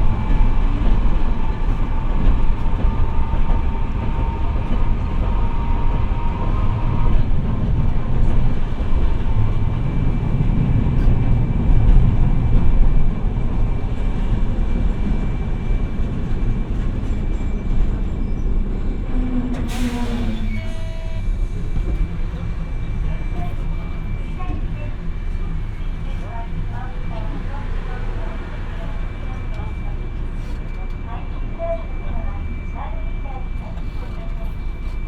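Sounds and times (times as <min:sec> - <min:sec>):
streetcar wheels rumbling: 0:00.0 - 0:35.0.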